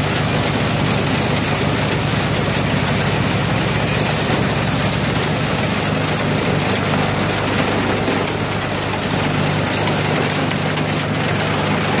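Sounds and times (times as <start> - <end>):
hydraulic firewood processor droning: 0.0 - 12.0.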